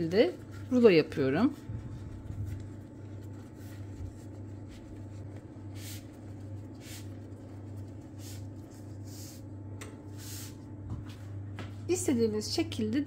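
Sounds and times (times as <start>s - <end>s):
pastry sheets rustling: 0.0s - 11.5s
steady low hum: 0.0s - 13.0s.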